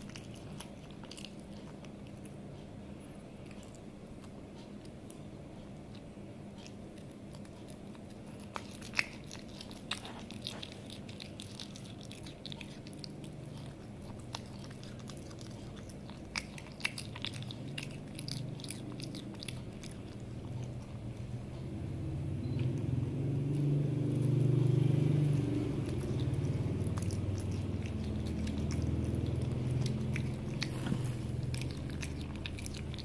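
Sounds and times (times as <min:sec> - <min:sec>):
cat chewing raw meat: 0:00.0 - 0:21.8, 0:22.4 - 0:33.0.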